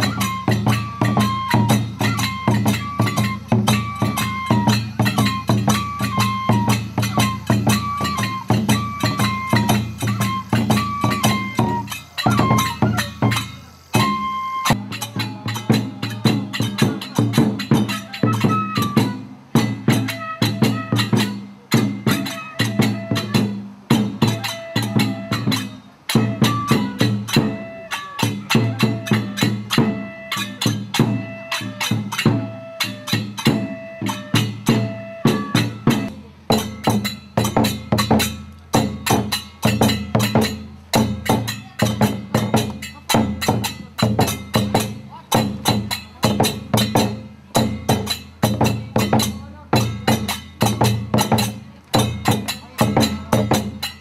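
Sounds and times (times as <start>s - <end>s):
barrel drum beaten with sticks: 0.0s - 54.0s
flute playing held notes: 0.0s - 54.0s.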